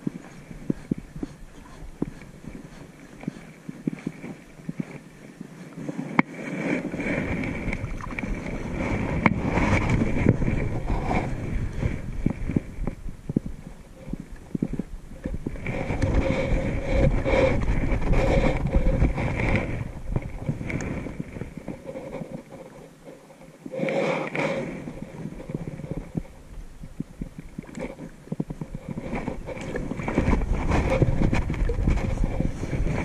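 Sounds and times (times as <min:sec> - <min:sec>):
wind buffeting microphone: 0:00.0 - 0:23.1, 0:24.4 - 0:33.0.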